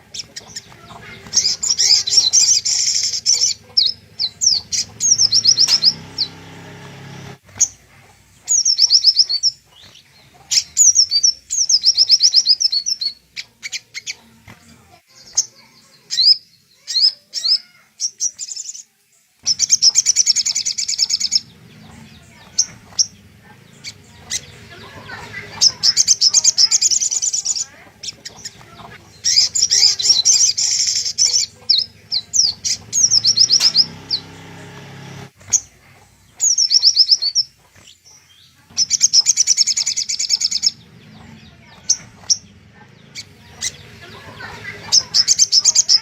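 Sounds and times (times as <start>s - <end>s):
bird chattering trills: 0.0s - 18.8s, 19.4s - 46.0s.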